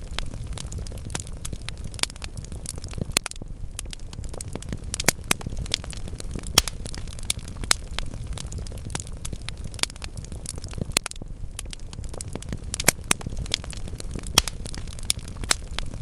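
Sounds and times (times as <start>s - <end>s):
burning logs popping: 0.0s - 16.0s
low rumble of flames: 0.0s - 16.0s
wood fire crackling: 0.0s - 16.0s.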